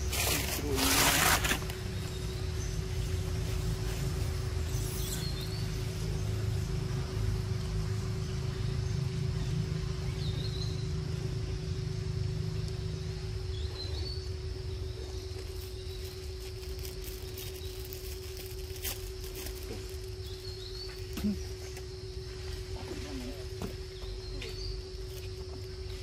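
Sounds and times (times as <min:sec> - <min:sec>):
constant hum: 0:00.0 - 0:26.0
insect drone: 0:00.0 - 0:26.0.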